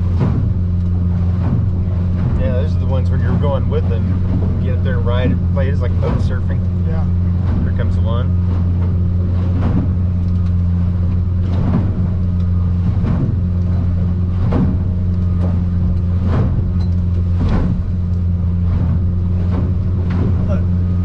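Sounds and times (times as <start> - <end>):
boat hull slapping waves: 0.0 - 21.0
outboard motor droning: 0.0 - 21.0.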